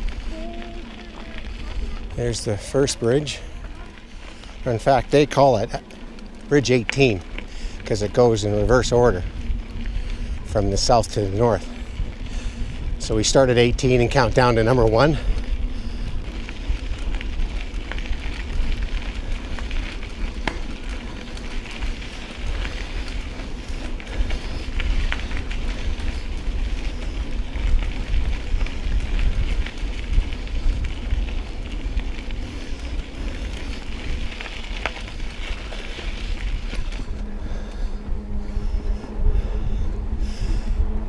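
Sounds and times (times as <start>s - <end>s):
bike tyres crackling on gravel: 0.0s - 41.0s
wind rumble on microphone: 5.7s - 41.0s.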